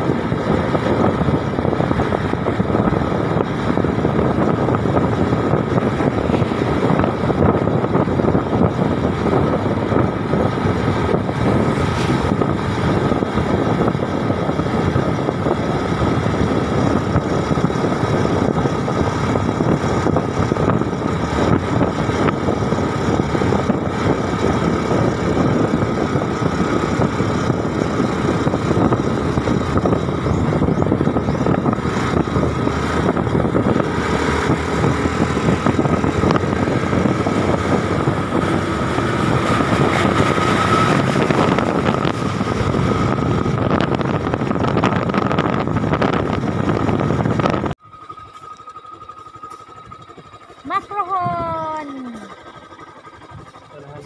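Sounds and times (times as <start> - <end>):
vehicle engine: 0.0 - 54.0
wind: 0.0 - 54.0.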